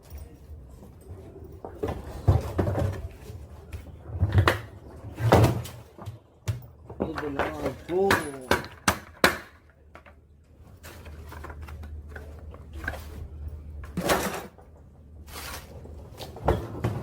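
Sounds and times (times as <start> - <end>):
low steady hum: 0.0 - 17.0
scrapes and knocks of parts: 0.0 - 17.0.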